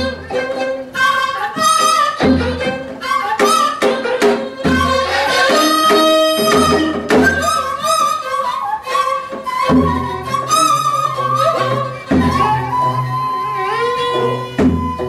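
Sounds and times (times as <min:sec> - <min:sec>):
bowed string instrument: 0:00.0 - 0:15.0
flute melody: 0:00.0 - 0:15.0.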